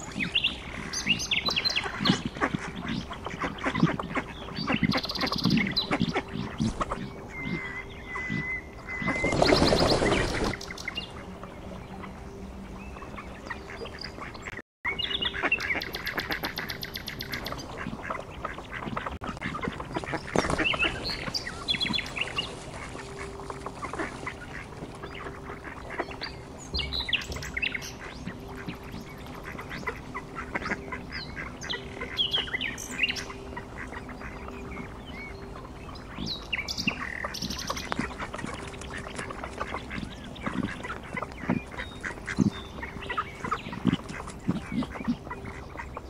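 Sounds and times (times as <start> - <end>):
ducks calling: 0.0 - 46.0.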